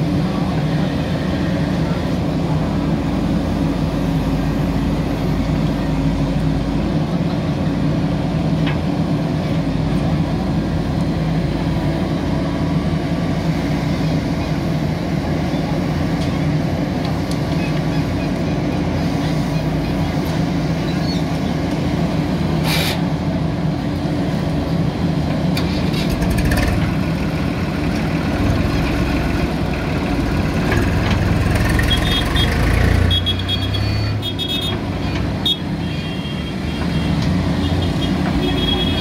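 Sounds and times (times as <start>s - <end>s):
diesel engine under load: 0.0s - 39.0s.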